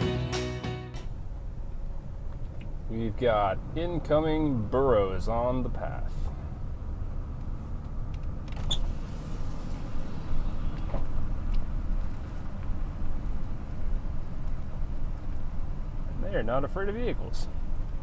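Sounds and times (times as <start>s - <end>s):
car road rumble from inside: 1.0s - 18.0s.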